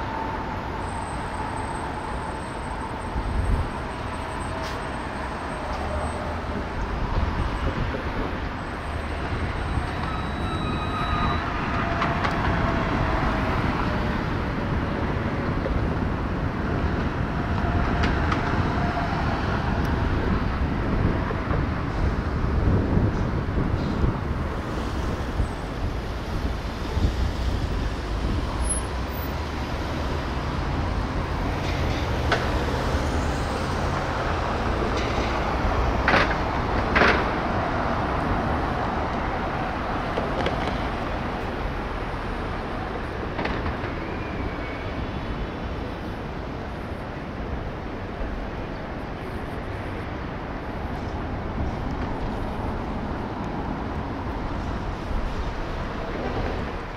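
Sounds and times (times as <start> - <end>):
traffic hum: 0.0 - 56.9.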